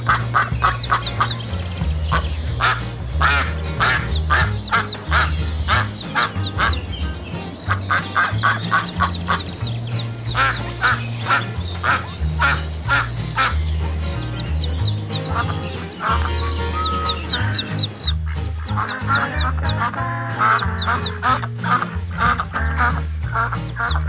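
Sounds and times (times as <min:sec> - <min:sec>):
background music with bass: 0:00.0 - 0:24.0
duck quacking: 0:00.0 - 0:24.0.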